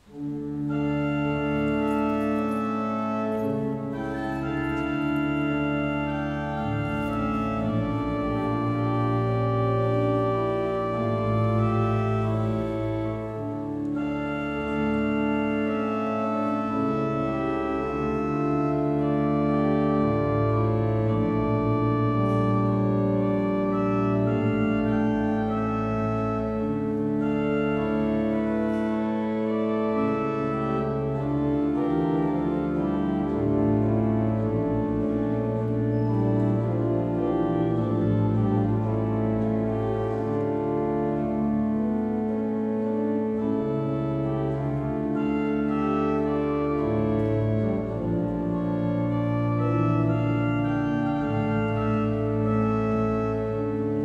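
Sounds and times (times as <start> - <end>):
pipe organ playing chords: 0.0 - 54.0.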